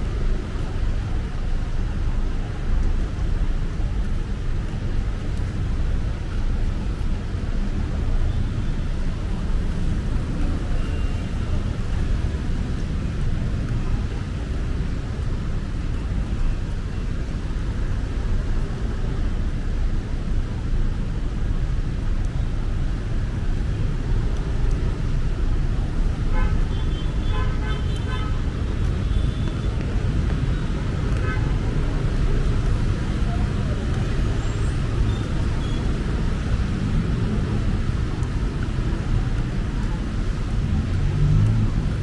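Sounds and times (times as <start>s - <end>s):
traffic rumble: 0.0s - 42.0s.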